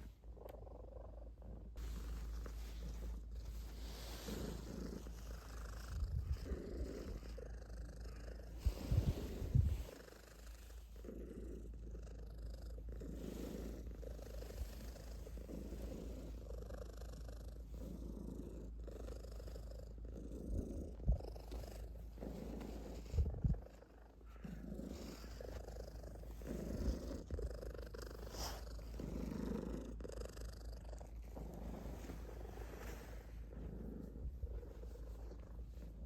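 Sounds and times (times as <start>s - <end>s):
cat purring: 0.0s - 36.0s.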